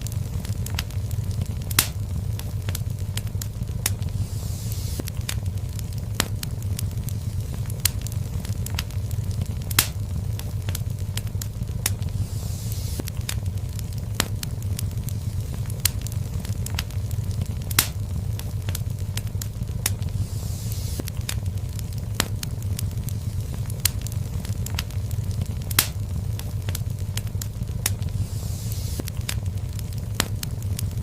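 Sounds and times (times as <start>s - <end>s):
faint hisses: 0.0s - 31.0s
low rumble of flames: 0.0s - 31.0s
wood fire pops and crackles: 0.0s - 31.0s.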